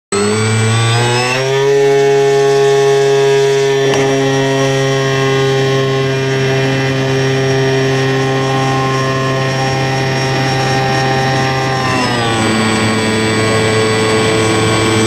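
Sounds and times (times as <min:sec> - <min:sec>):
model airplane motor buzzing: 0:00.1 - 0:15.0.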